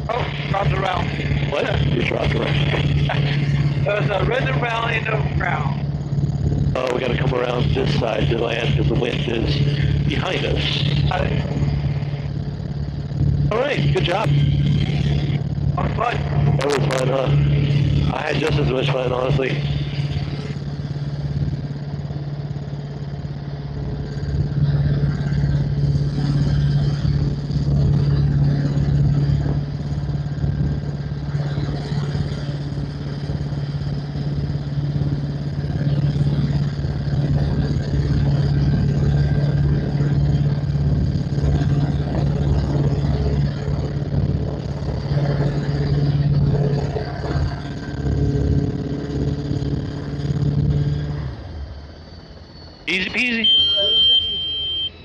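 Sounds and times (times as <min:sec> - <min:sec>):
helicopter engine drone: 0:00.0 - 0:55.0
helicopter rotor beating: 0:00.0 - 0:55.0.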